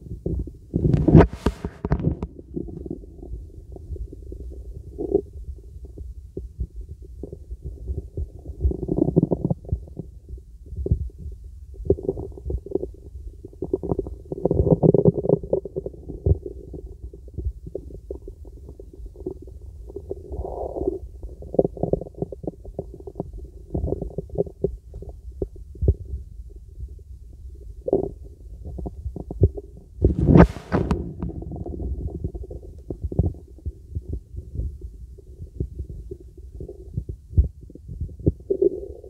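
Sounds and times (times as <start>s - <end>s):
low muffled rumble: 0.0s - 14.8s, 15.7s - 39.0s
stomach gurgles through stethoscope: 0.0s - 39.0s.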